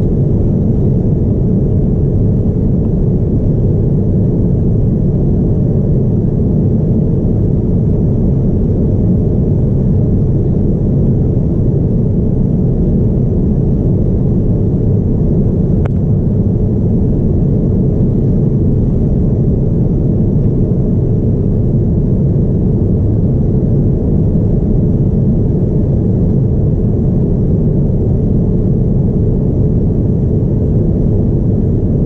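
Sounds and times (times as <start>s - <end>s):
airplane cabin rumble: 0.0s - 32.0s.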